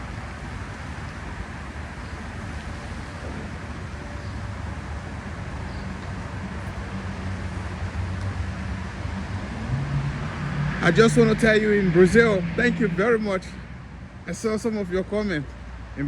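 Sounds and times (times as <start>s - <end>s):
engine low hum: 0.0s - 16.0s
road traffic rumble: 0.0s - 16.0s.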